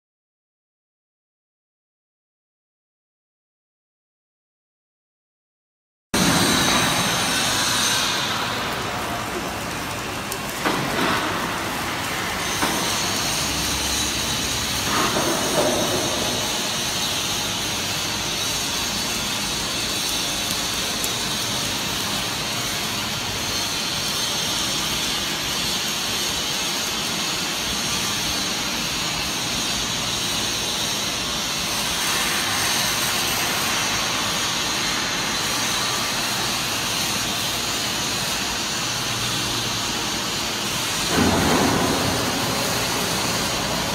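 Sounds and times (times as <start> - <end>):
hissing welding machinery: 6.2 - 43.9.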